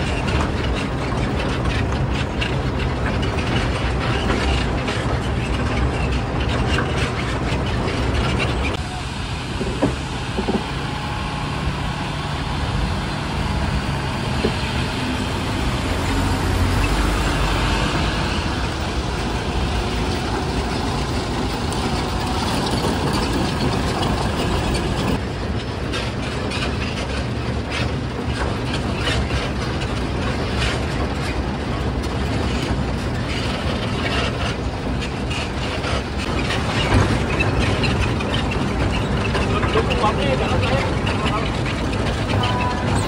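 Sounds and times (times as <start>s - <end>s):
diesel locomotive engine drone: 0.0s - 43.0s
wheels clanking on track: 0.0s - 43.0s.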